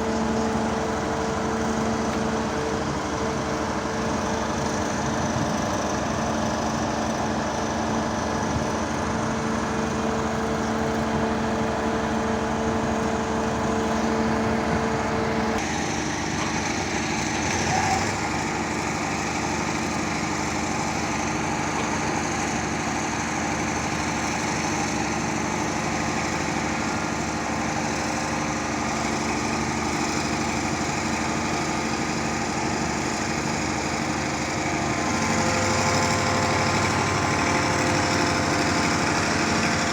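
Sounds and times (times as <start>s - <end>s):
pile driver engine running: 0.0s - 39.9s.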